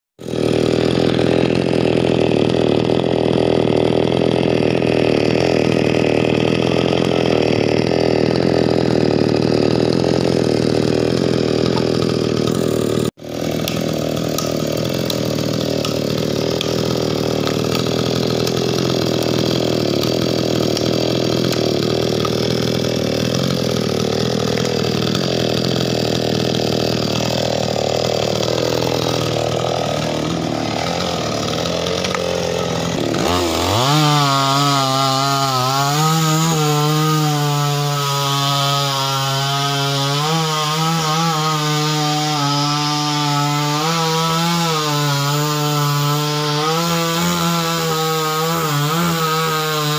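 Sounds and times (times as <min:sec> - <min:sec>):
chainsaw engine running: 0:00.2 - 0:49.9.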